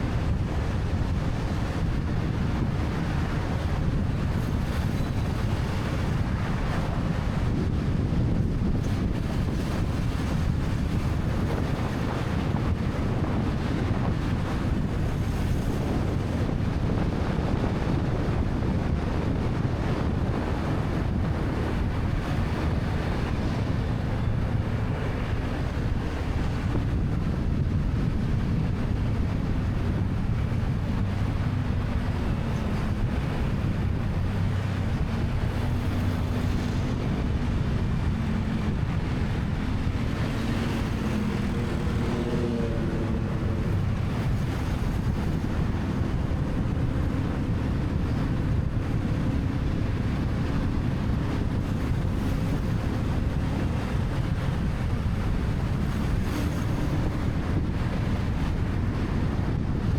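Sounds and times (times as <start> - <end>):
traffic: 0.0 - 59.9
wind rushing over microphone: 0.0 - 59.9.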